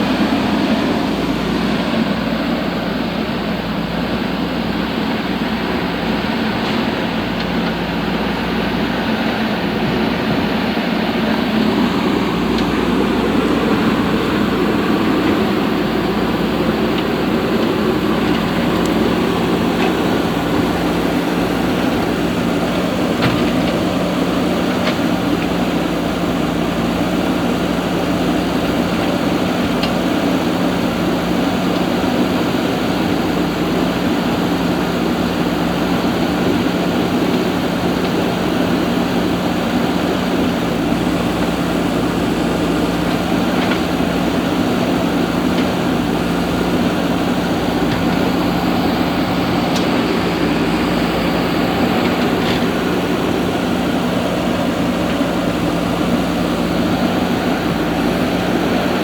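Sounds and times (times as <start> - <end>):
machine humming: 0.0 - 59.0.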